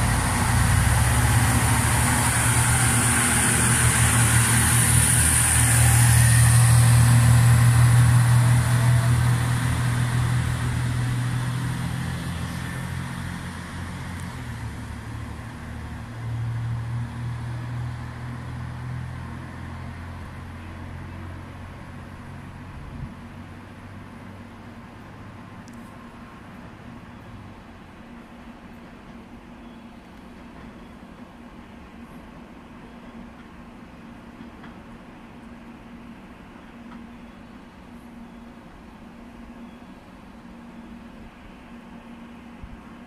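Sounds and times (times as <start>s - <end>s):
train diesel engines droning: 0.0s - 43.0s.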